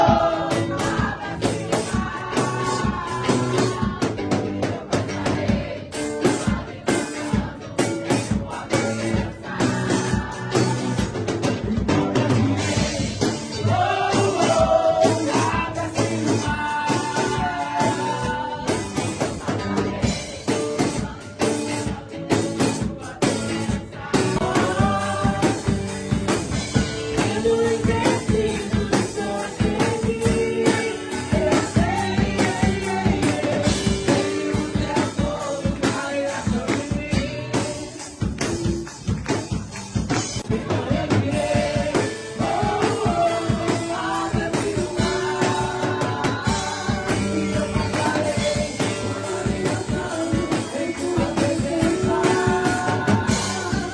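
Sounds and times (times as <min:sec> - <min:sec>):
live band with drums: 0:00.0 - 0:53.9
people singing: 0:00.0 - 0:53.9.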